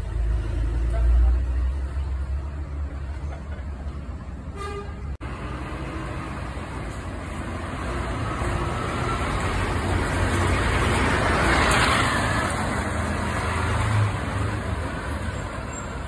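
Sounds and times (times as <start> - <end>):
bus diesel engine passing by: 0.0 - 16.0.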